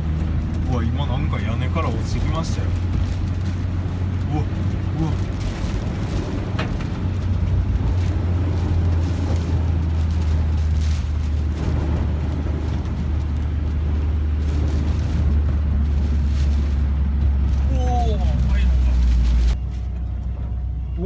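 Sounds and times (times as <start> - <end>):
strong wind: 0.0 - 19.6
moving car rumble: 0.0 - 21.0.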